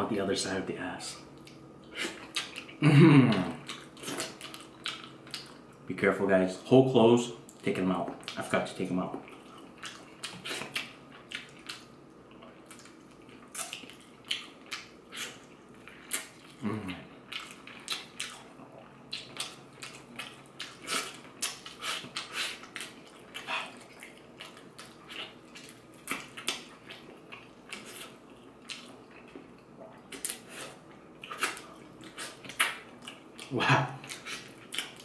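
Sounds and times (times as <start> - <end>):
man eating with lip smacks: 1.3 - 5.8, 9.1 - 35.0.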